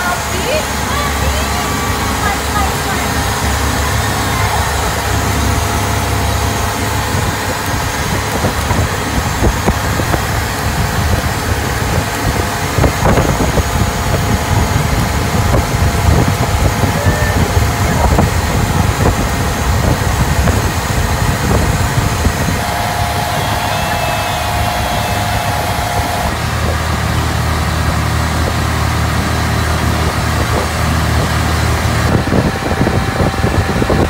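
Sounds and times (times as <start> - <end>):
boat engine running: 0.0 - 34.0
water rushing along hull: 0.0 - 34.0.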